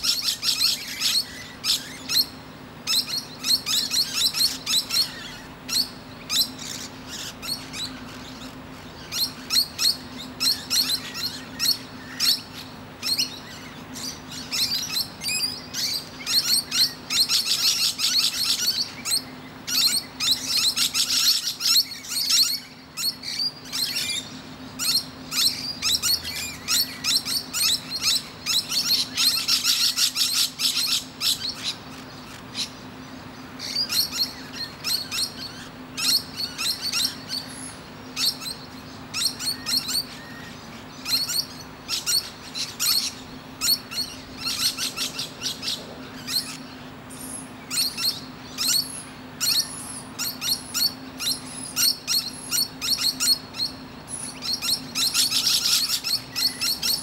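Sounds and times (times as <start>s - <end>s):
lorikeets chattering: 0.0s - 57.0s.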